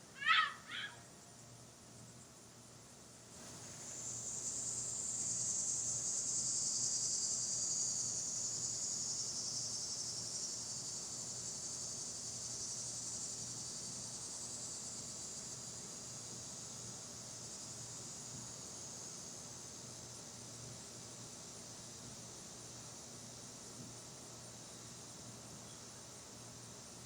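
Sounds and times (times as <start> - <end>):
insect buzzing: 3.5 - 27.0.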